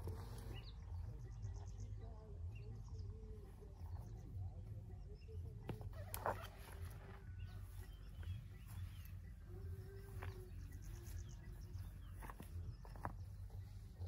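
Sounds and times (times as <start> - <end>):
faint bird chirps: 0.0 - 14.0
low steady rumble: 0.0 - 14.0.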